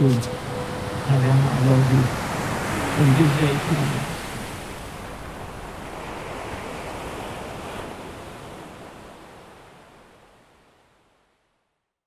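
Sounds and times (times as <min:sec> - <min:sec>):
sea surf washing onto beach: 0:00.0 - 0:10.1.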